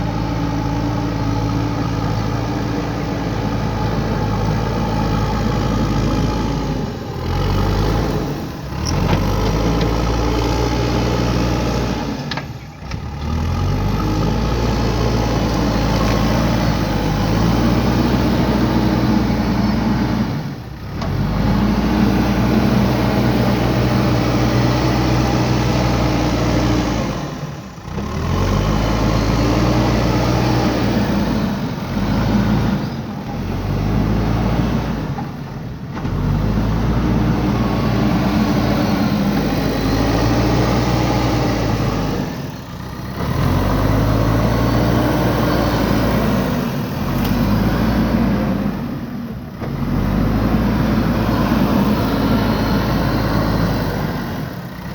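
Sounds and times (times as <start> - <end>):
diesel engine under load: 0.0 - 54.9.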